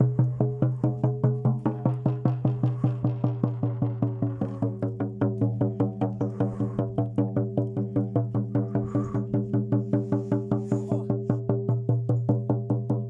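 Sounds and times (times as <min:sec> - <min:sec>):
steady low drone: 0:00.0 - 0:11.2.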